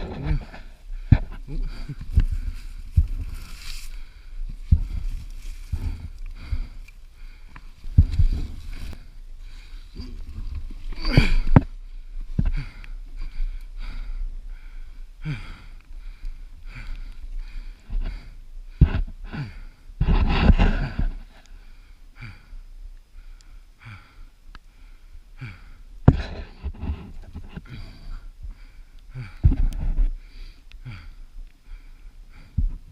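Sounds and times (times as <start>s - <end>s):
heavy laboured breathing: 0.0s - 32.9s.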